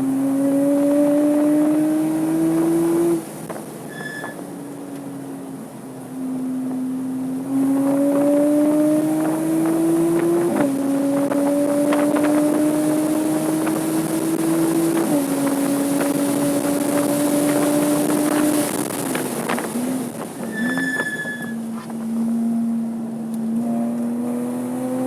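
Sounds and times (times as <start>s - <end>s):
car engine accelerating through gears: 0.0s - 25.0s.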